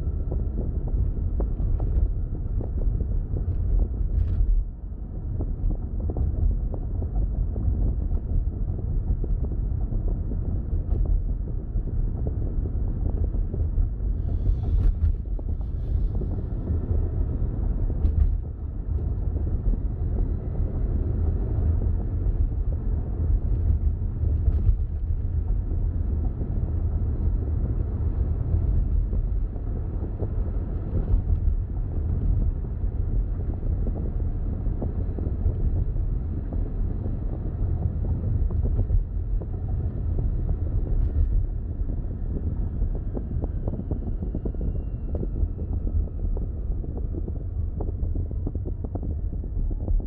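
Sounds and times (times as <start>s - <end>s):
car road and wind noise: 0.0s - 50.0s.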